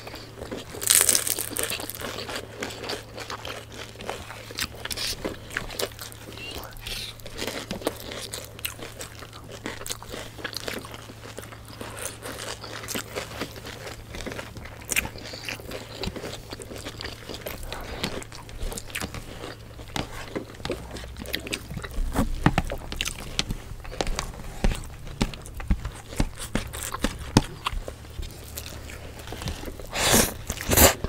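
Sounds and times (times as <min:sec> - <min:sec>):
crunching bites of fried food: 0:00.0 - 0:31.0
steady low hum: 0:00.0 - 0:31.0
wet chewing of noodles: 0:00.0 - 0:31.0.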